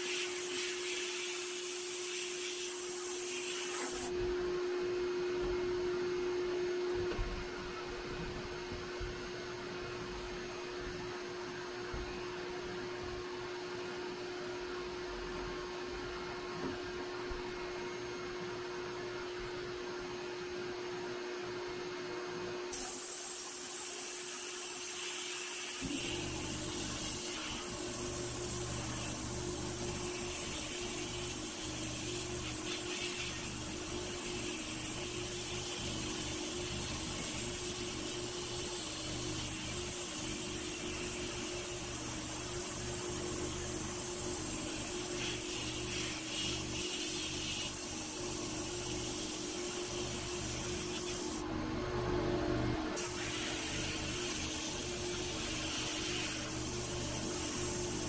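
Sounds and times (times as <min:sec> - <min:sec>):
sandblast cabinet machinery hum: 0:00.0 - 0:58.0.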